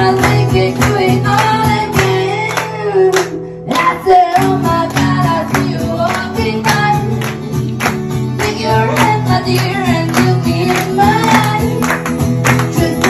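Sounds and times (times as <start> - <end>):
woman singing: 0.0 - 7.5, 8.3 - 13.0
strummed acoustic guitar: 0.0 - 13.0.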